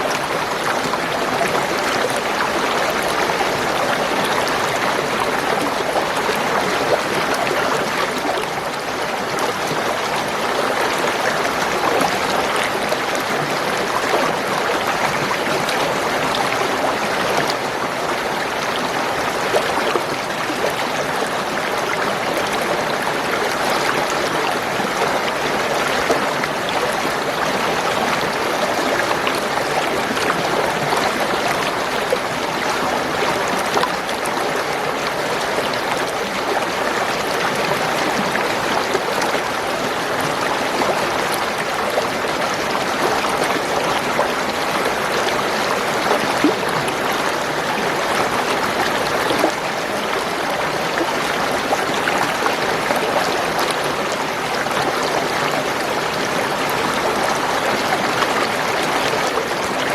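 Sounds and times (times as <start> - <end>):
spring water gurgling and trickling: 0.0 - 59.9.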